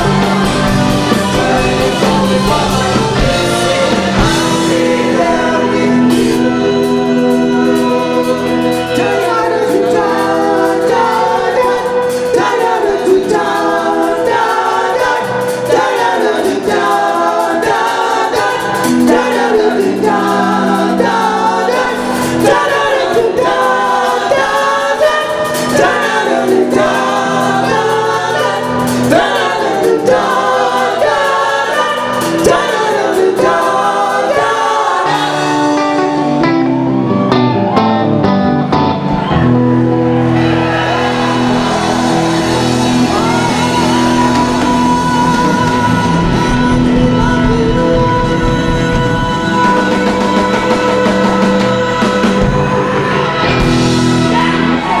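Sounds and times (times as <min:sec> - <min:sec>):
organ chords: 0:00.0 - 0:15.7, 0:16.4 - 0:55.0
bass: 0:00.0 - 0:55.0
drums: 0:00.0 - 0:55.0
electric guitars: 0:00.0 - 0:55.0
singers singing together: 0:00.0 - 0:55.0.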